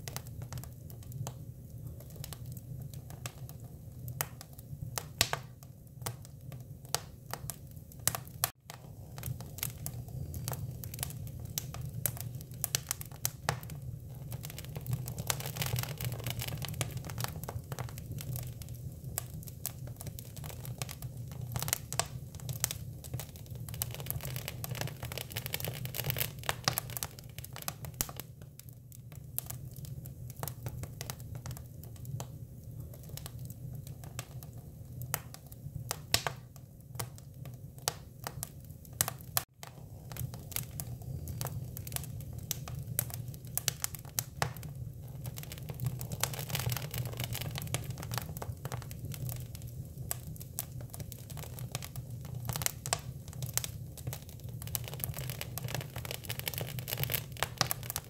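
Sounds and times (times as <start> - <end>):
low steady fire rumble: 0.0 - 58.0
wood fire crackling and popping: 0.0 - 58.0.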